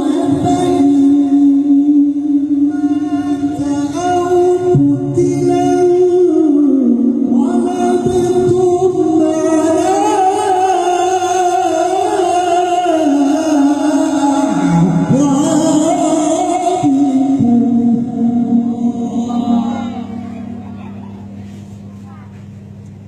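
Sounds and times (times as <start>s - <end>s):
man reciting in melodic style: 0.0s - 22.4s.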